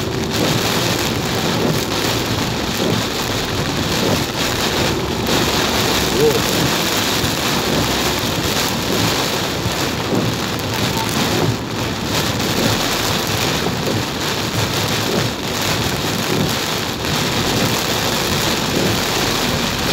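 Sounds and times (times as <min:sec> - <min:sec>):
heavy rain pouring: 0:00.0 - 0:19.9.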